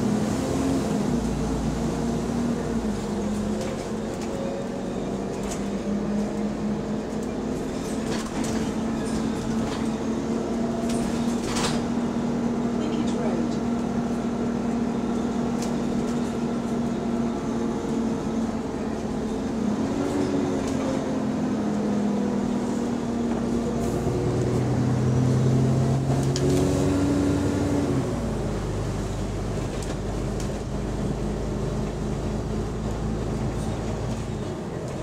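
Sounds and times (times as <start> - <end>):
bus engine hum: 0.0 - 35.0.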